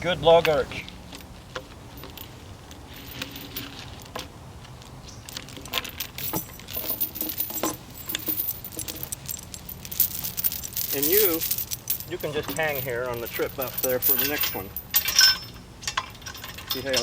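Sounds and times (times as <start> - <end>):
chain clinking and rattling: 1.1 - 4.2, 5.1 - 17.0.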